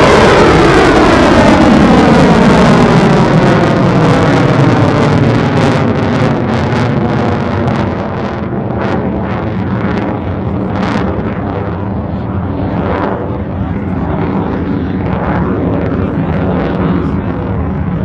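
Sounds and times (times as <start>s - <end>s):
jet engines roaring in afterburner: 0.0s - 18.0s.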